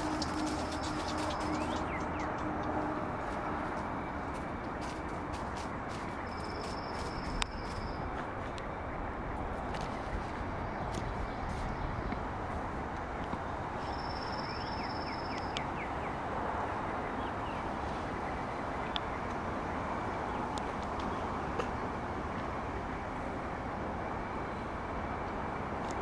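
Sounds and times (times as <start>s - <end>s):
steady rushing background noise: 0.0s - 26.0s.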